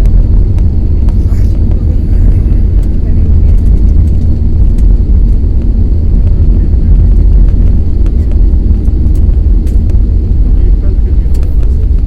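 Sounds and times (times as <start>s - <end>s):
airplane landing rumble: 0.0s - 12.0s.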